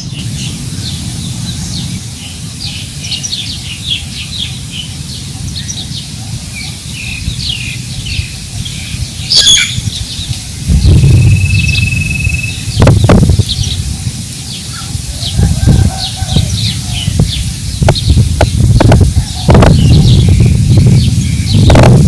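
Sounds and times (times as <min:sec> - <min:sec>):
birds chirping: 0:00.0 - 0:22.0
wind rumbling on microphone: 0:00.0 - 0:22.0.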